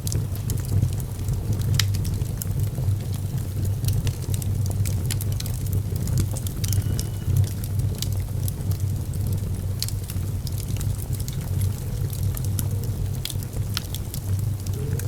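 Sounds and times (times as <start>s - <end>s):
fire crackling and popping: 0.0s - 15.0s
fire low rumble: 0.0s - 15.0s.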